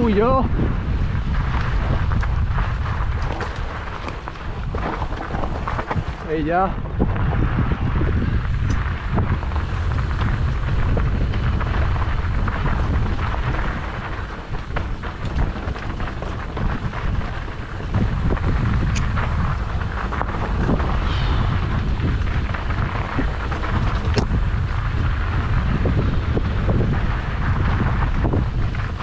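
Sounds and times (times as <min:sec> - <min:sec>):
tyres crunching over stones: 0:00.0 - 0:07.6, 0:08.4 - 0:29.0
bike rattling and clicking: 0:00.0 - 0:29.0
wind buffeting microphone: 0:00.0 - 0:29.0.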